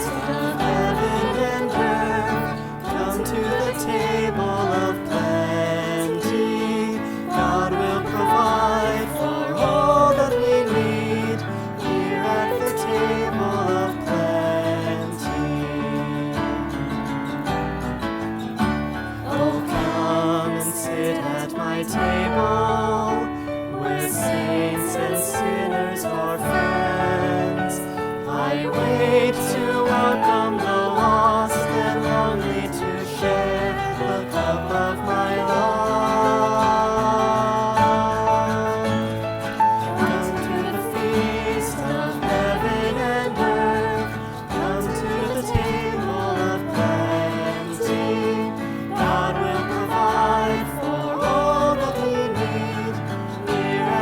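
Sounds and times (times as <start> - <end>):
person singing with vibrato: 0.0 - 17.6, 18.5 - 54.0
instrumental accompaniment: 0.0 - 54.0.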